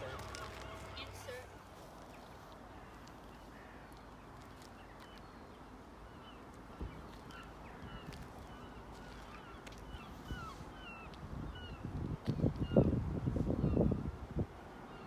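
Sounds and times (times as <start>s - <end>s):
low background noise: 0.0s - 12.8s.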